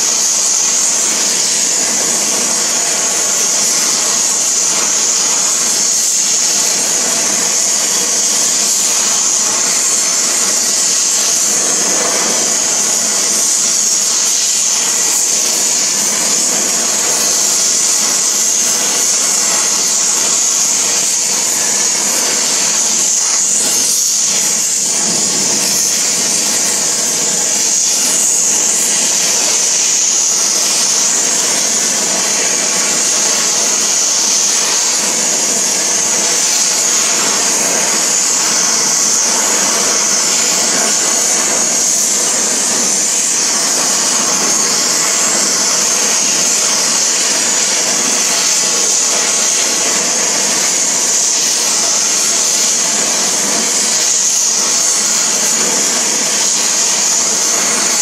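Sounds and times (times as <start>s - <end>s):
torch flame rushing: 0.0s - 58.0s.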